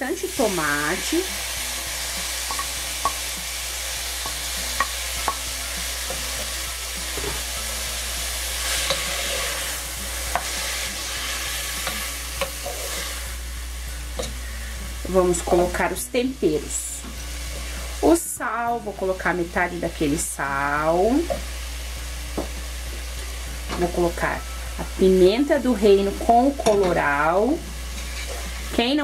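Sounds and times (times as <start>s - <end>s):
tomatoes sizzling in hot oil: 0.0s - 29.0s.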